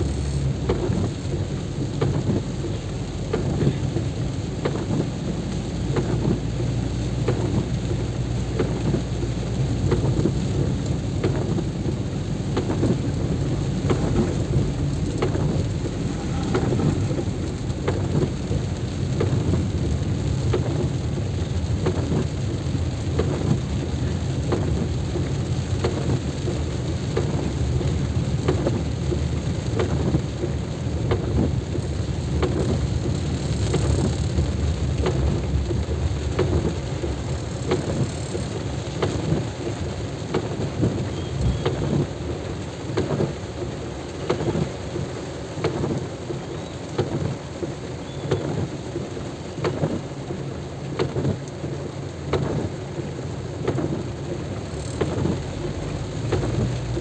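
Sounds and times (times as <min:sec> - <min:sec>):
low rain rumble: 0:00.0 - 0:57.0
raindrops tapping near microphone: 0:00.0 - 0:57.0.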